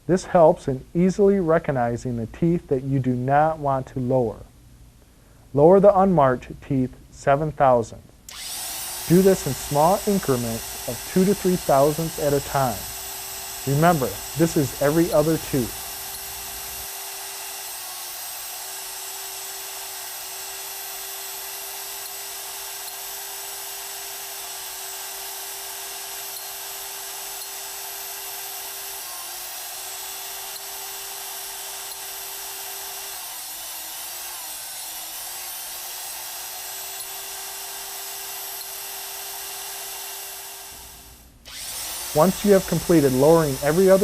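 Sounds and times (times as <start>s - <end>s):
grinding machine whining: 8.3s - 44.0s.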